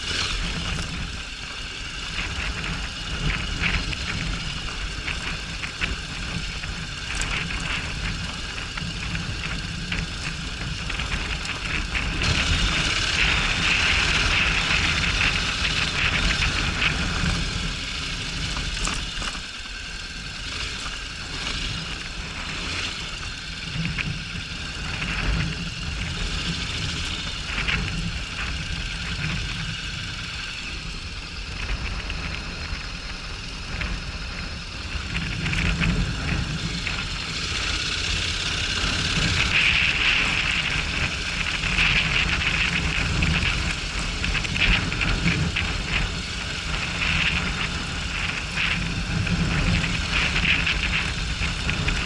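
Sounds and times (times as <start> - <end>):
motorcycle engine running: 0.0 - 52.0
wind hiss: 0.0 - 52.0.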